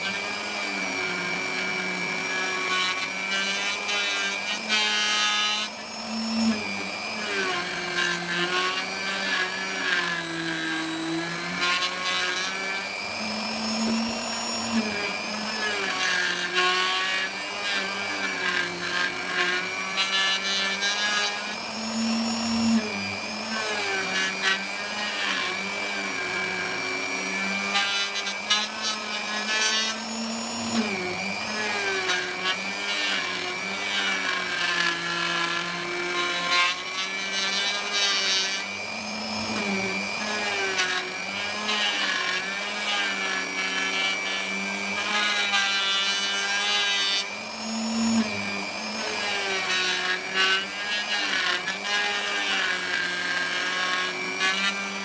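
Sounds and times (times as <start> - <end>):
electric router cutting wood: 0.0 - 55.0.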